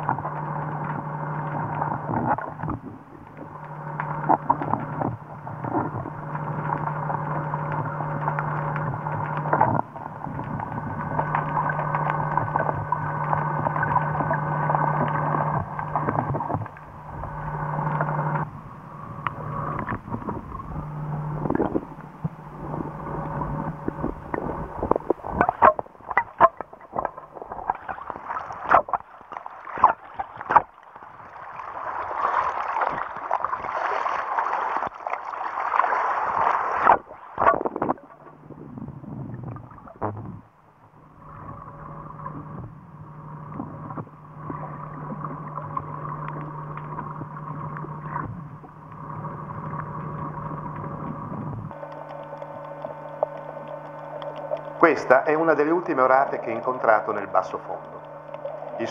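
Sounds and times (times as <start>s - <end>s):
underwater low hum: 0.0s - 58.9s.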